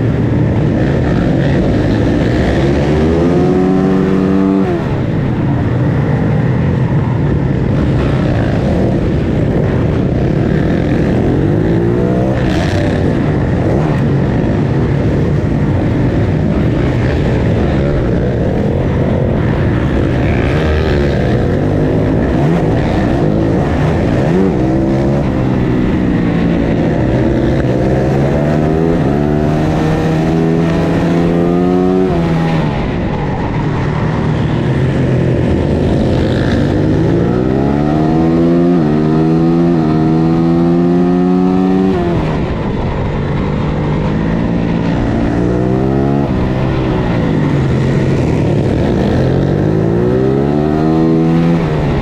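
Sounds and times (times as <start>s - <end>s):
motorbike engine revving: 0.0s - 5.5s, 7.6s - 52.0s
other motorbikes passing: 0.0s - 52.0s.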